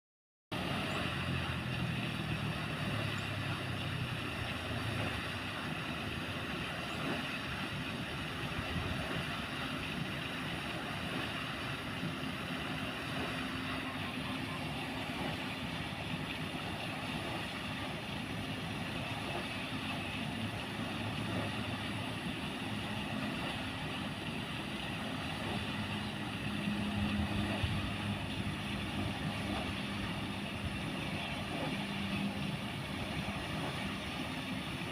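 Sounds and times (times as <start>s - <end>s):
low motor hum: 0.5s - 34.9s
water churning and splashing: 0.5s - 34.9s.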